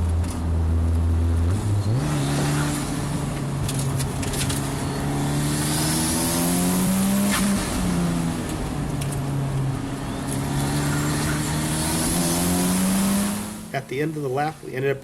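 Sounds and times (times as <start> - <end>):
race car engine accelerating: 0.1 - 13.8.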